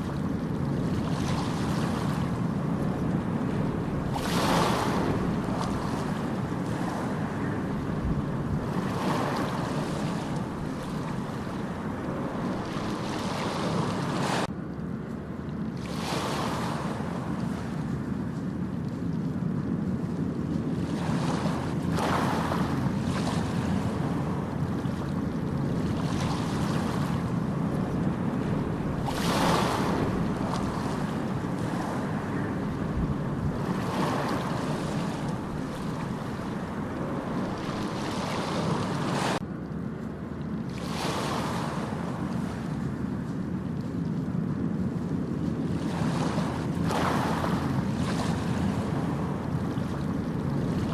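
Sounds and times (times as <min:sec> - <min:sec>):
low rumble of waves: 0:00.0 - 0:50.9.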